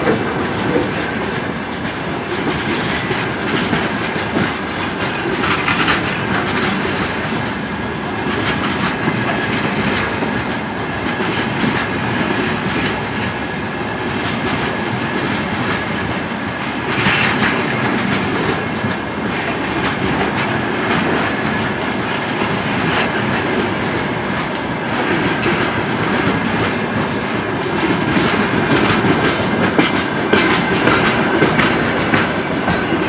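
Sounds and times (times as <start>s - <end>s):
train wheels rumbling on rail: 0.0s - 33.0s
wheels clacking over rail joints: 0.0s - 33.0s.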